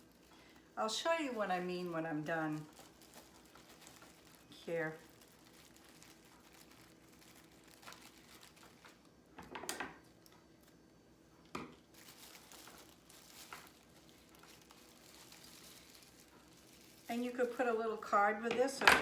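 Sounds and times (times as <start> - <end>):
plastic snack bag crinkling: 0.0 - 9.4, 11.4 - 18.9.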